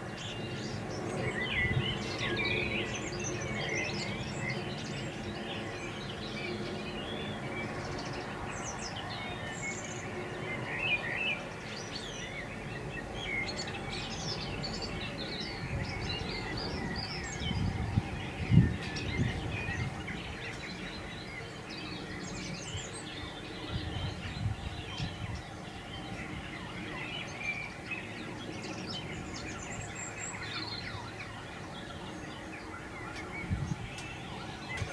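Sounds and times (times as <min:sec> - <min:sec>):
small birds chirping and warbling: 0:00.0 - 0:34.9.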